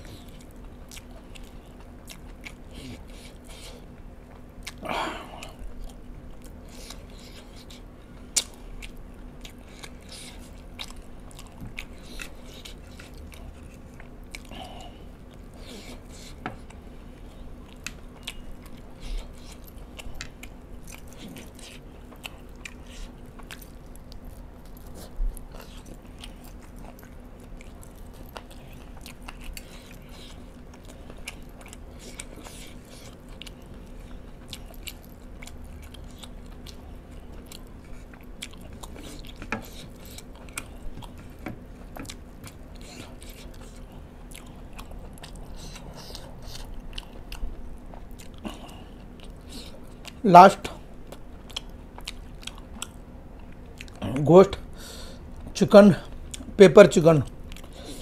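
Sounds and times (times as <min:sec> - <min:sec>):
man chewing chicken wings: 0:00.0 - 0:56.6, 0:57.2 - 0:58.0.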